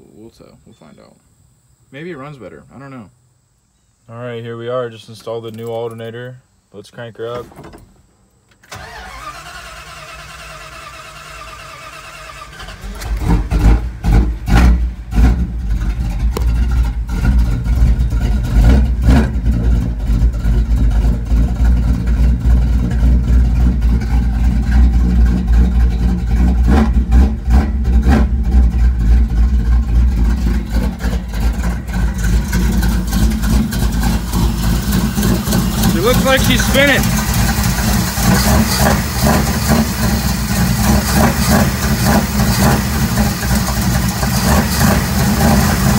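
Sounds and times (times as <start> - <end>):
engine revving and idling: 8.8 - 45.9.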